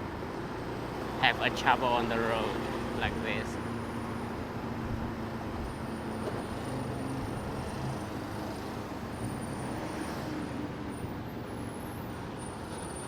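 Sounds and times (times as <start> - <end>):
road noise: 0.0 - 13.0
surrounding car traffic: 0.0 - 13.0.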